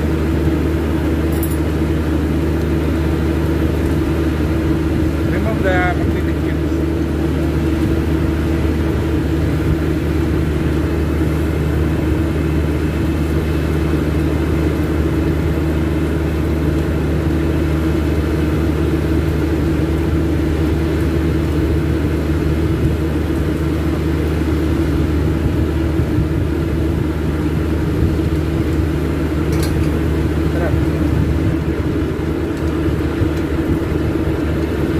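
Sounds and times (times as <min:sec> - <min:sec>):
machine humming drone: 0:00.0 - 0:34.9.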